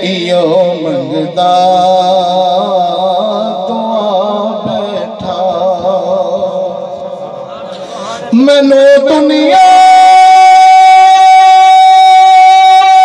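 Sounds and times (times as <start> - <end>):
man chanting through a microphone: 0.0 - 13.0.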